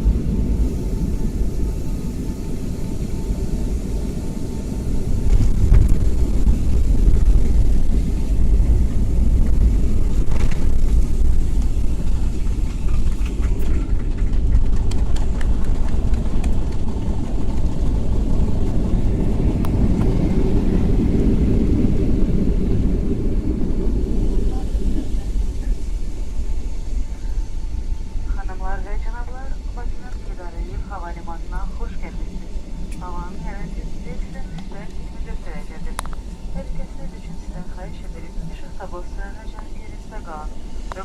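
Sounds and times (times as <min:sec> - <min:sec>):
airliner engine and wheel rumble: 0:00.0 - 0:41.0.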